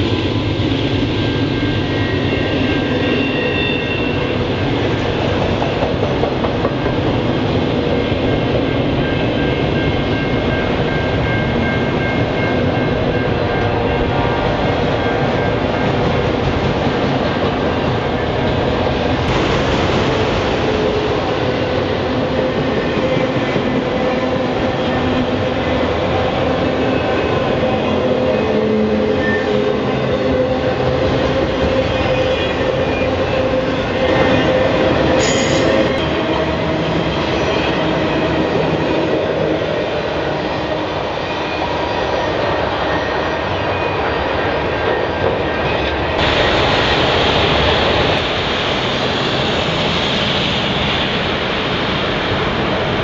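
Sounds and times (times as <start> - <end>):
train wheels rumbling and clicking: 0.0 - 53.0.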